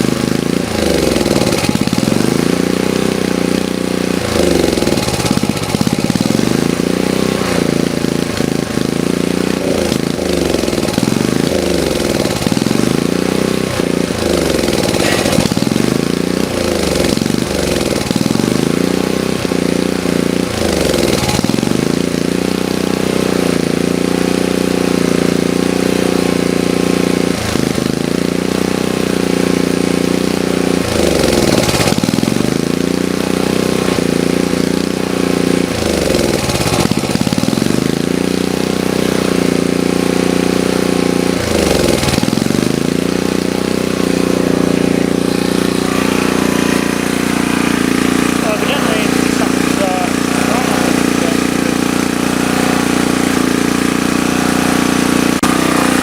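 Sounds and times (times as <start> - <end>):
generator engine surging: 0.0 - 56.0.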